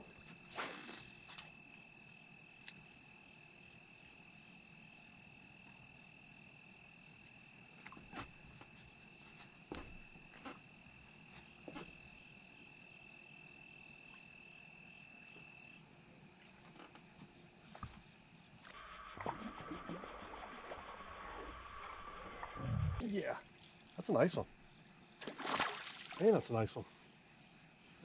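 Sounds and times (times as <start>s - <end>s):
insects trilling: 0.0s - 18.8s, 23.0s - 28.0s.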